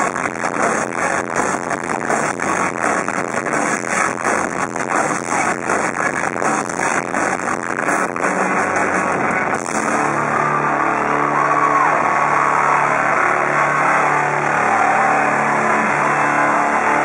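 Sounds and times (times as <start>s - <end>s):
distorted droning guitar chord: 0.0s - 17.0s.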